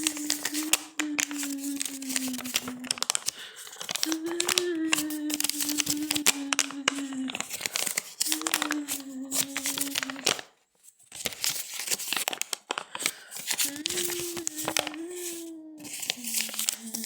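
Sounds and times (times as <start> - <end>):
plastic bottle crinkling: 0.0 - 17.0.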